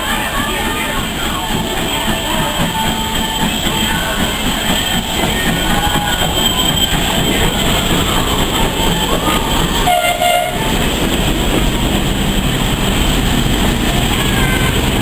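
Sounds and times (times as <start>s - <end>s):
train running along track: 0.0s - 15.0s.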